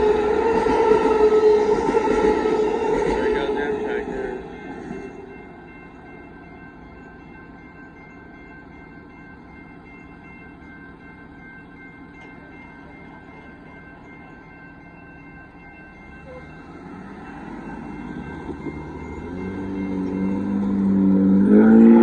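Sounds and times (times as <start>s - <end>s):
crossing warning bell ringing: 0.0s - 22.0s
low railway rumble: 0.0s - 22.0s.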